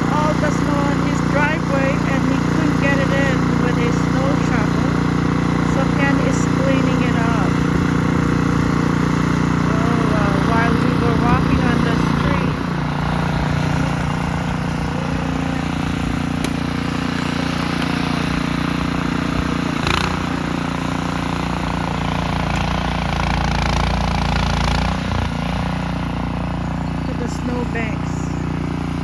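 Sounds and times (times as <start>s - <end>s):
snowblower engine running: 0.0s - 29.0s.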